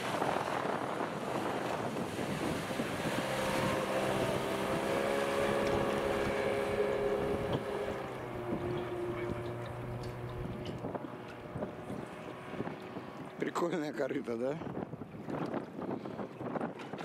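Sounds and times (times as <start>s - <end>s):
outboard motor droning: 0.0s - 17.0s
water rushing past hull: 0.0s - 17.0s
wind buffeting microphone: 0.0s - 17.0s.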